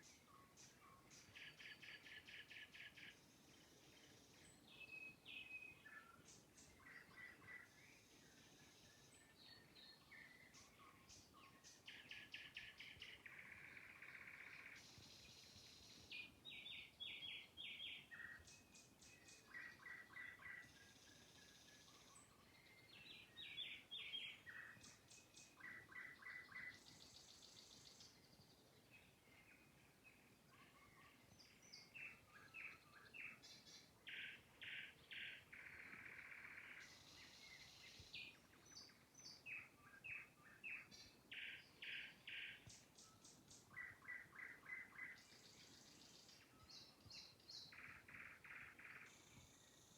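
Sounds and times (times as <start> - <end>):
nightingale singing: 0.0 - 49.9.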